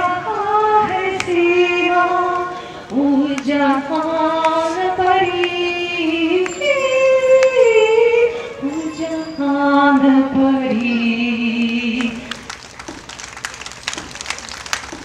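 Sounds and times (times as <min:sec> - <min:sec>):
person singing long held notes: 0:00.0 - 0:12.4.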